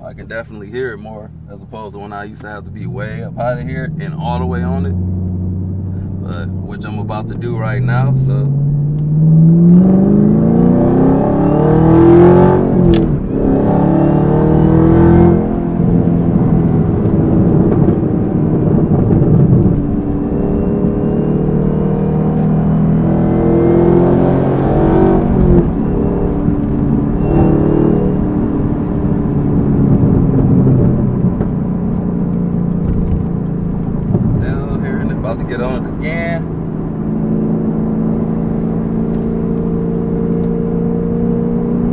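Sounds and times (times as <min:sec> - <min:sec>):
car engine revving: 0:00.0 - 0:41.9
supercharger whine: 0:00.0 - 0:41.9.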